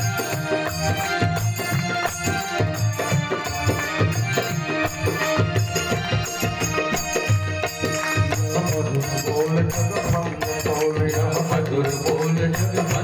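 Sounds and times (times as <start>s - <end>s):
electronic keyboard melody: 0.0s - 11.4s
steady drum rhythm: 0.0s - 13.0s.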